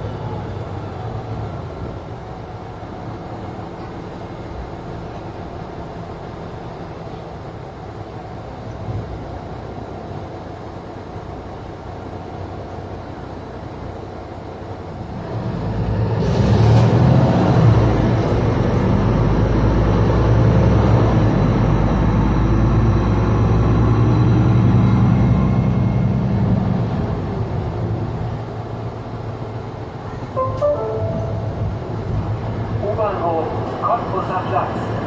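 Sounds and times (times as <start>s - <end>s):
bus engine and road noise: 0.0s - 35.0s.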